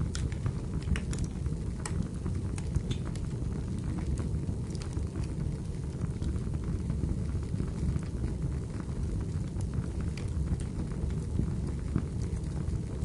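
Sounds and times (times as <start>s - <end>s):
firewood crackling and popping: 0.0s - 13.0s
wood fire burning: 0.0s - 13.0s.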